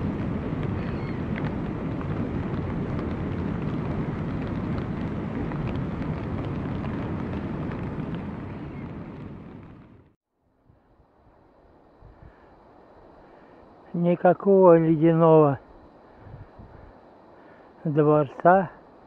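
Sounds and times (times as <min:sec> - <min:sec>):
wind rumble on microphone: 0:00.0 - 0:13.9, 0:14.5 - 0:17.5.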